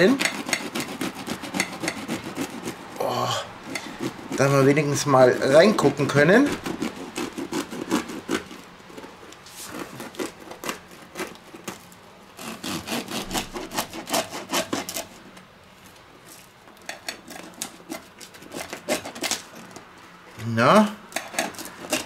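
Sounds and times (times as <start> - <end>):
knife sawing through pizza crust: 0.0 - 15.3, 16.4 - 19.9, 21.1 - 22.0.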